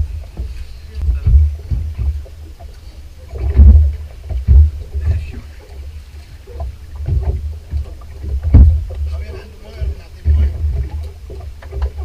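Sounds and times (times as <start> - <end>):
low gusting rumble: 0.0 - 12.0
small knocks and clatter: 0.2 - 5.9, 6.5 - 12.0.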